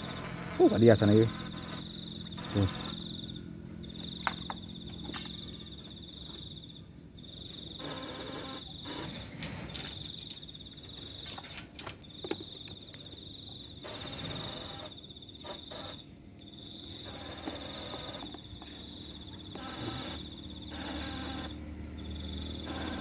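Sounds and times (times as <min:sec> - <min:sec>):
cricket trilling: 0:00.0 - 0:23.0.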